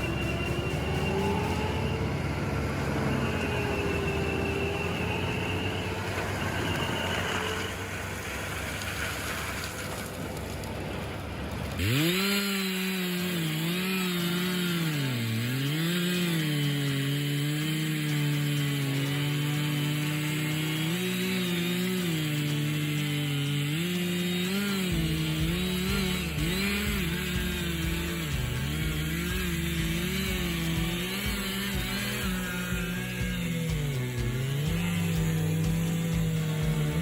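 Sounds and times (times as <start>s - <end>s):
chainsaw cutting wood: 0.0s - 10.6s, 11.2s - 37.0s.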